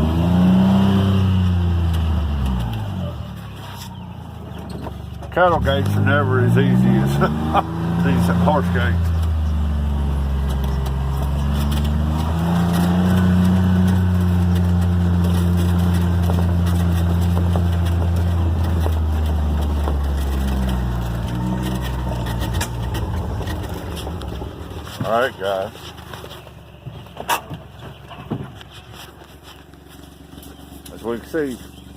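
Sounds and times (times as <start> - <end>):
utility vehicle engine: 0.0 - 31.9.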